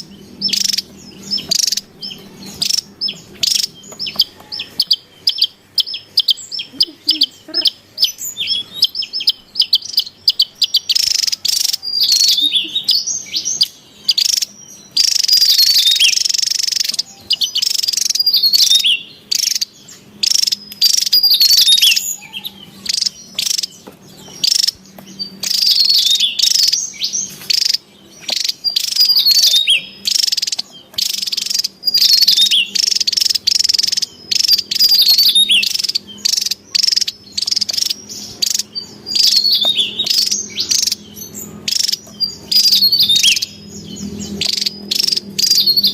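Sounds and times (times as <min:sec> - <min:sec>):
bird singing rapid jumbled notes: 0:00.0 - 0:45.9.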